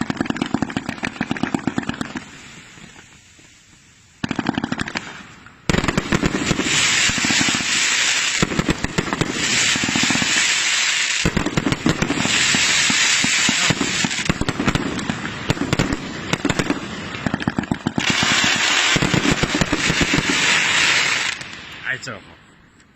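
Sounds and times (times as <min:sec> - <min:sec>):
firework hiss: 0:00.0 - 0:22.2
firework crackling: 0:00.0 - 0:22.3.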